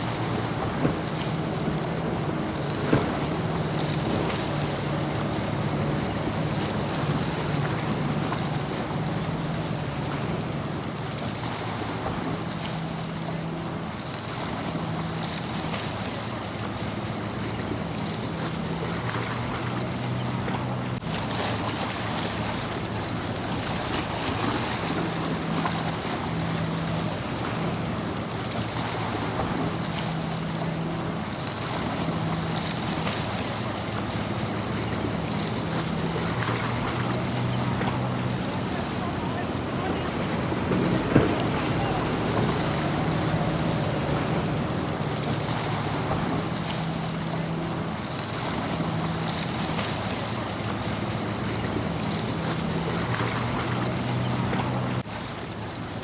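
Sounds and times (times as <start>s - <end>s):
wind buffeting microphone: 0.0s - 12.6s, 22.5s - 55.0s
boat engine droning: 0.0s - 56.0s
surf: 0.0s - 56.0s.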